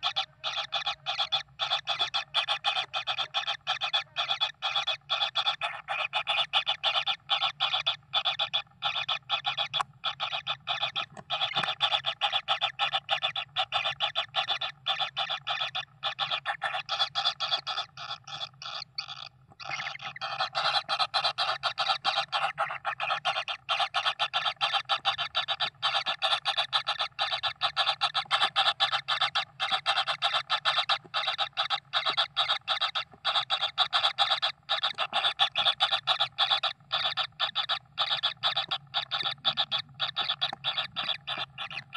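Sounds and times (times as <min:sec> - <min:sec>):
pulsing raspy animal calling: 0:00.0 - 0:41.9.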